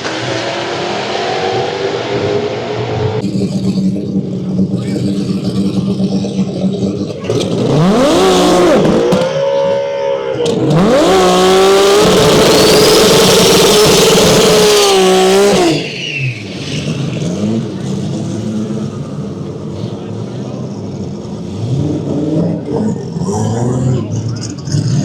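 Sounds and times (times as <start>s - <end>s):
drag racing car accelerating: 0.0s - 25.0s
car engine idling: 2.5s - 9.7s, 10.4s - 25.0s.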